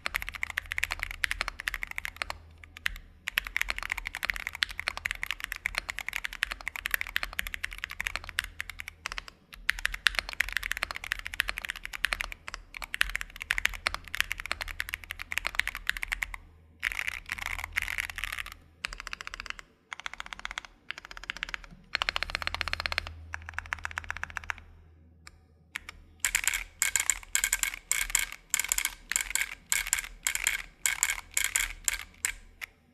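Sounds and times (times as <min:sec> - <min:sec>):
mechanical keyboard typing: 0:00.0 - 0:24.7, 0:25.8 - 0:32.8.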